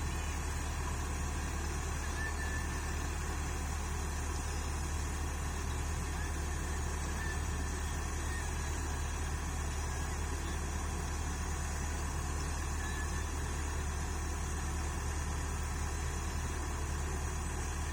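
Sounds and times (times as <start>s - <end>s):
excavator diesel engine idling: 0.0s - 17.9s.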